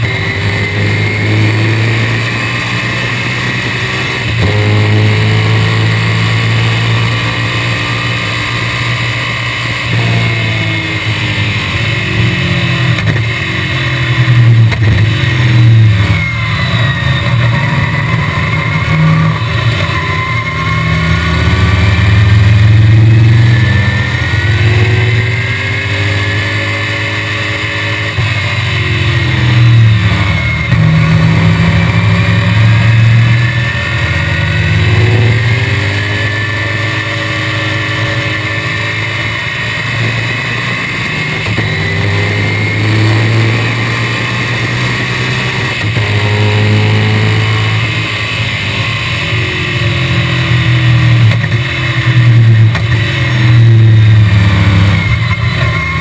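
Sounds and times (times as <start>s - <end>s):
racing car engine shifting gears: 0.0s - 56.0s.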